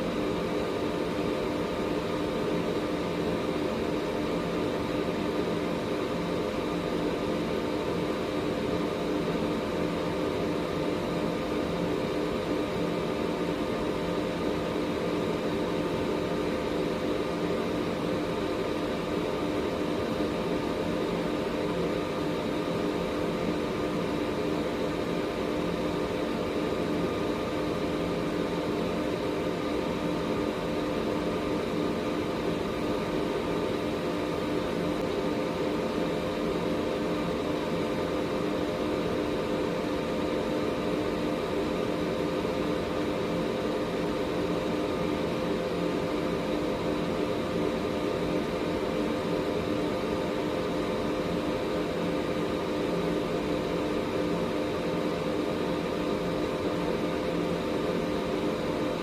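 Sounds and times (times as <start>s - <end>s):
air purifier rushing air: 0.0s - 59.0s
fan motor hum: 0.0s - 59.0s.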